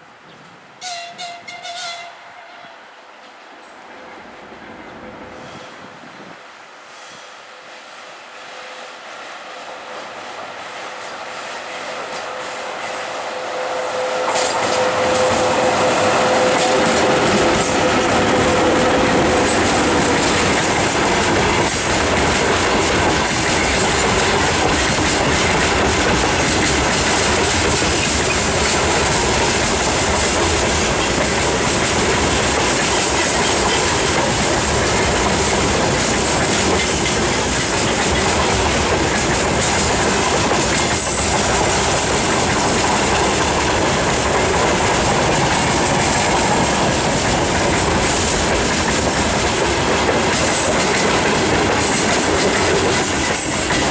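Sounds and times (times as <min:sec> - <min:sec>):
freight train rumbling past: 0:03.6 - 0:53.9.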